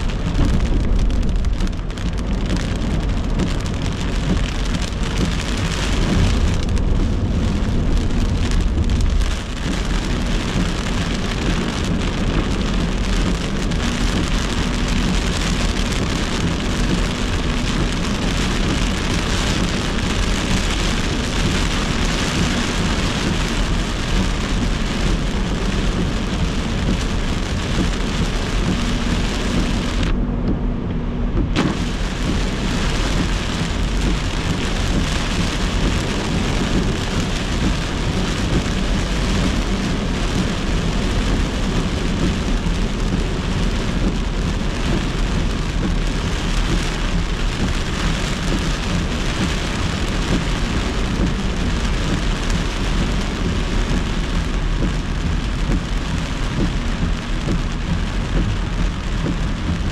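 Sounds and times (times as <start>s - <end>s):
heavy rain on car windshield: 0.0s - 59.9s
tyres on wet road: 0.0s - 59.9s.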